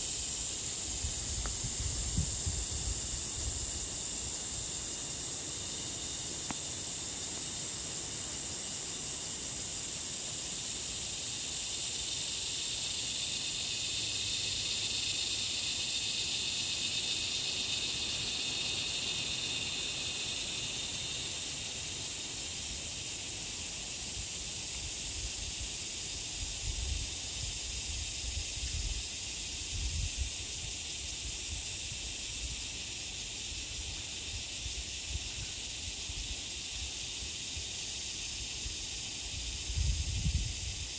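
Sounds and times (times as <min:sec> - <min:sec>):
insects buzzing: 0:00.0 - 0:40.9
insects chirping: 0:00.0 - 0:40.9.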